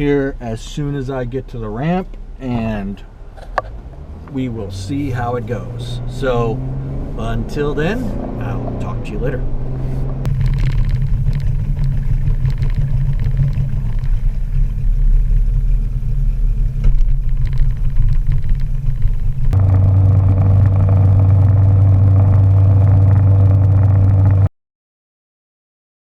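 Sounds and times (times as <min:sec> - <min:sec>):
steady low hum: 0:00.0 - 0:24.5
vehicle road noise and engine rumble: 0:00.0 - 0:24.5.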